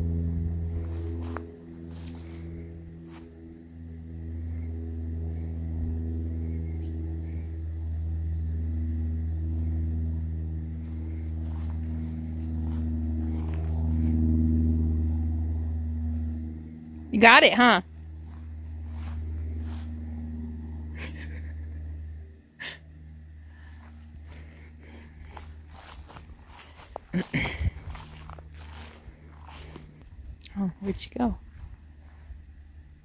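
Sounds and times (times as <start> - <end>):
low engine-like drone: 0.0 - 33.0.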